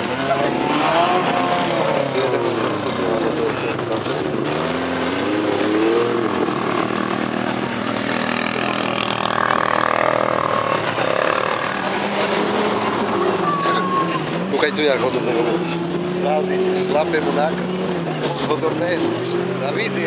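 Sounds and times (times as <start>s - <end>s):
off-road vehicle engines revving: 0.0s - 20.0s.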